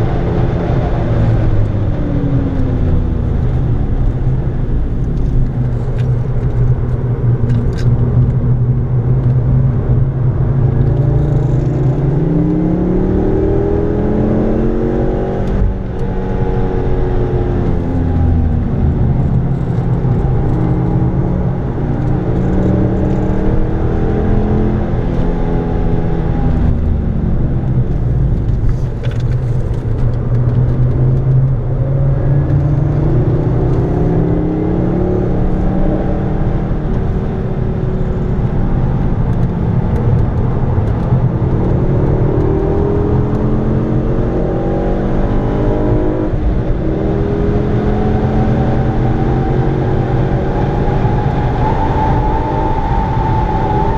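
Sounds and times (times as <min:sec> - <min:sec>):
car engine at full throttle: 0:00.0 - 0:53.9
tyre and road noise: 0:00.0 - 0:53.9.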